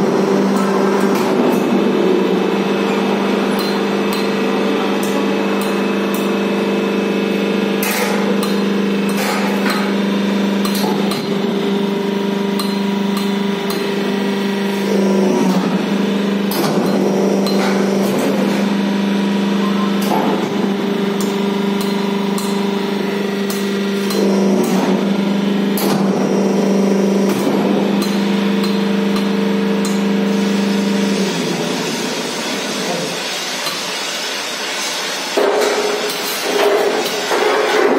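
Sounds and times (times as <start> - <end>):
pump motor humming: 0.0 - 34.8.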